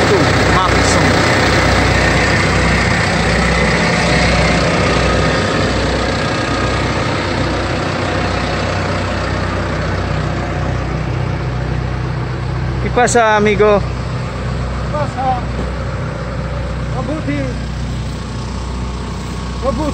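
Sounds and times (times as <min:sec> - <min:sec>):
tractor diesel engine idling: 0:00.0 - 0:19.9.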